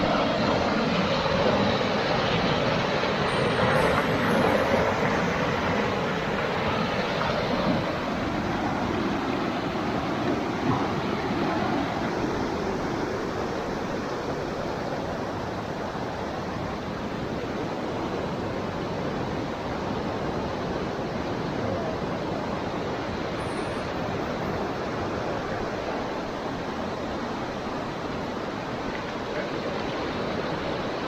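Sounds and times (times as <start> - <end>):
rushing floodwater in creek: 0.0 - 31.0.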